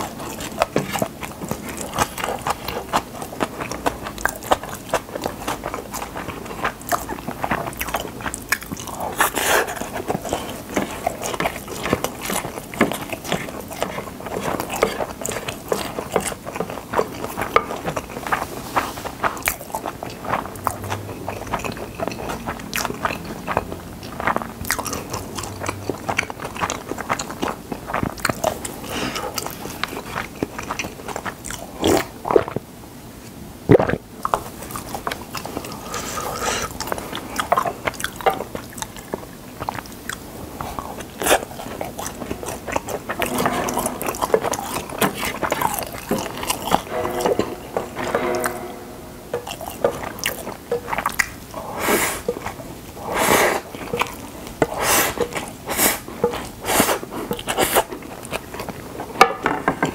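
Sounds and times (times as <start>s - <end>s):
close-miked chewing: 0.0s - 32.6s, 33.2s - 43.4s, 49.4s - 59.2s.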